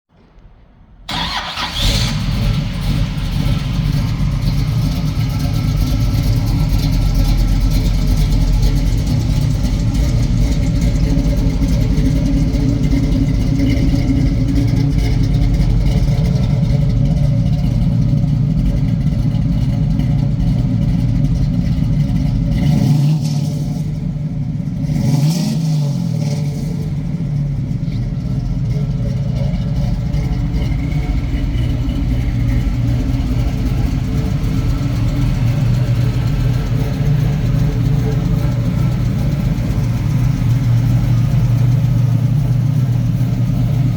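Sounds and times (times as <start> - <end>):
car engine starting and idling: 0.2 - 43.9
engine revs: 1.1 - 17.8, 22.1 - 43.9.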